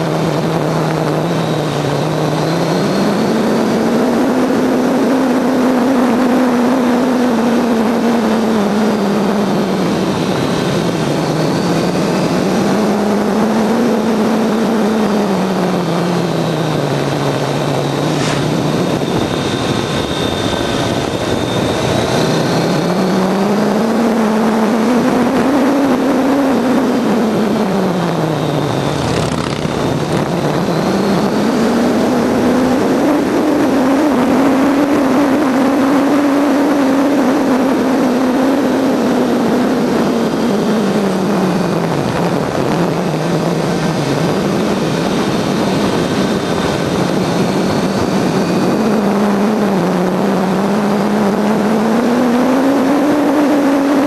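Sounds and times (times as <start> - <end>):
motorcycle engine revving: 0.0 - 54.0
wind noise rushing: 0.0 - 54.0.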